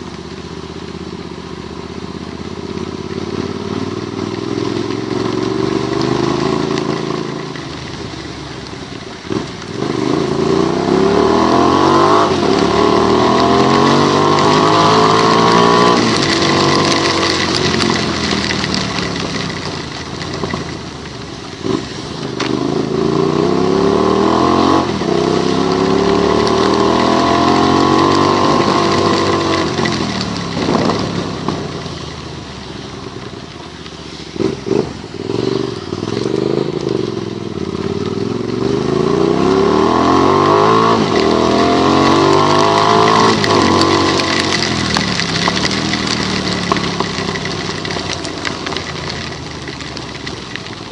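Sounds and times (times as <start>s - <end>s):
hiss of wet road and wind: 0.0s - 50.9s
vehicle engine accelerating: 0.0s - 50.9s.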